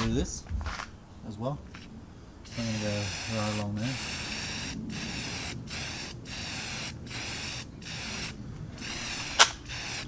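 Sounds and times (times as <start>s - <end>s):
spray paint can hissing: 1.8s - 10.0s.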